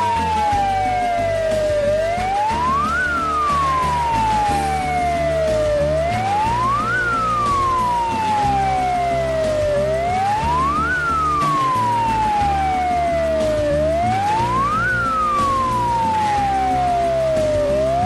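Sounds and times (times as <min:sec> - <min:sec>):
ambulance siren wailing: 0:00.0 - 0:18.0
background music: 0:00.0 - 0:18.0
fainter second siren: 0:00.0 - 0:18.0.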